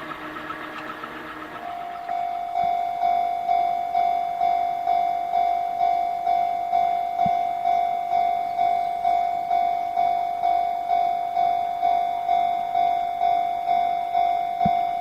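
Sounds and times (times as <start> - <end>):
level-crossing warning bell ringing: 0.0 - 15.0.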